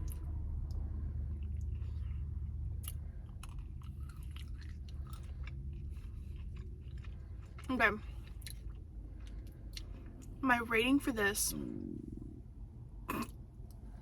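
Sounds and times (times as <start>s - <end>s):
chewing and mouth sounds: 0.0s - 10.4s, 13.1s - 14.0s
low hum: 0.0s - 14.0s.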